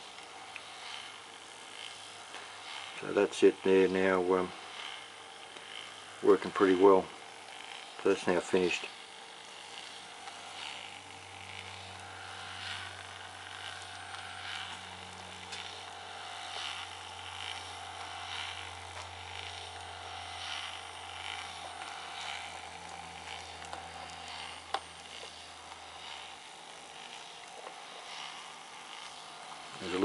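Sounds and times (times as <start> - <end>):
small geared motor humming: 0.0 - 30.0.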